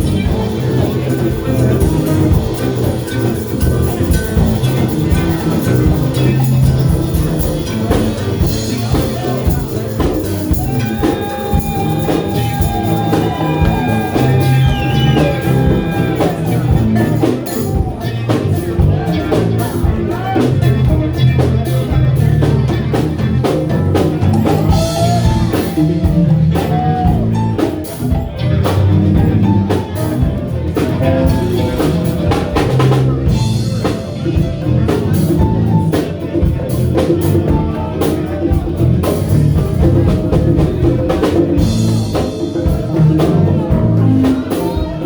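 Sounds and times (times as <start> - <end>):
drum kit steady beat: 0.0 - 45.0
live band music: 0.0 - 45.0.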